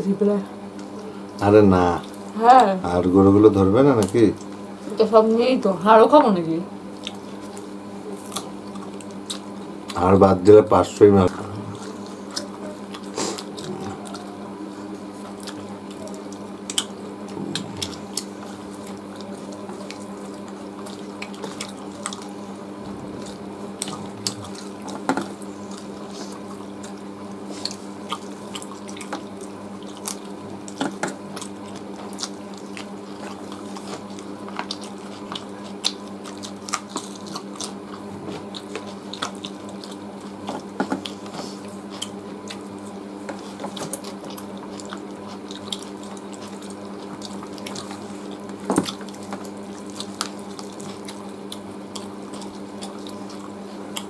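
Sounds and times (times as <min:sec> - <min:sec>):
steady low hum: 0:00.0 - 0:54.0
wet chewing and lip-smacking: 0:06.9 - 0:10.0, 0:11.2 - 0:54.0.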